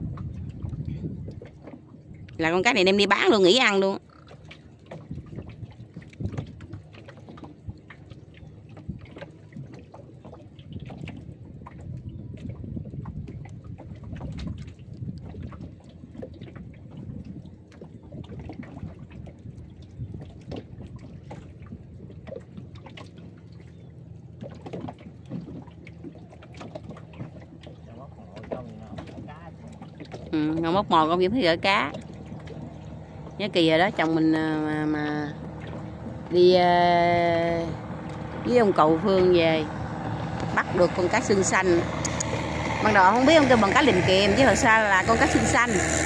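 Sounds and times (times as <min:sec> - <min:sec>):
water lapping against boat hull: 0:00.0 - 0:46.0.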